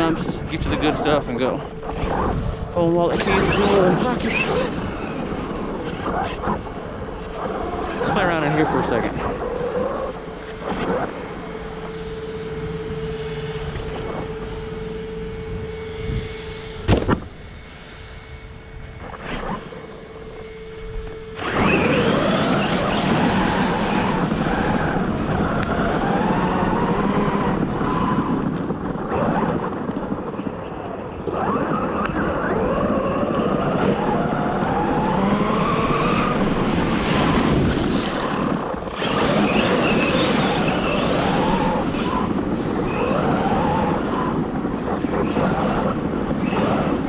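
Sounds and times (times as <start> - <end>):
drivetrain and tyre noise: 0.0 - 47.0
rc car motor whining: 0.0 - 47.0.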